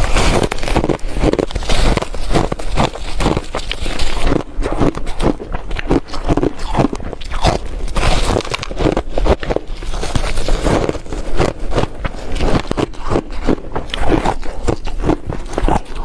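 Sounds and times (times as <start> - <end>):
ice being chewed crunching: 0.0 - 16.0.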